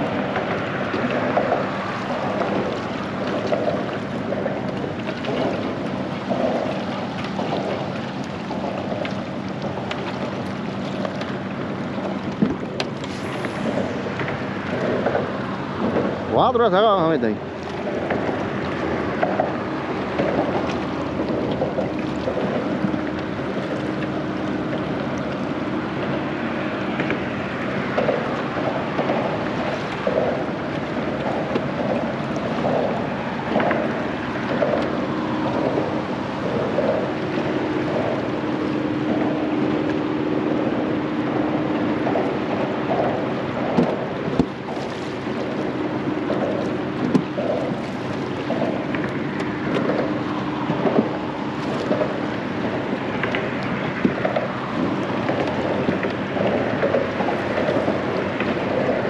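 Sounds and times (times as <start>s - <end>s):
steady hum: 0.0s - 59.0s
water moving around boat: 0.0s - 59.0s
wind on microphone: 0.0s - 59.0s.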